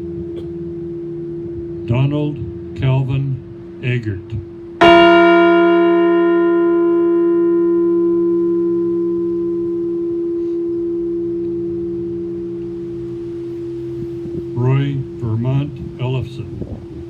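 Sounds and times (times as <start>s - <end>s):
large bell ringing: 0.0s - 17.0s.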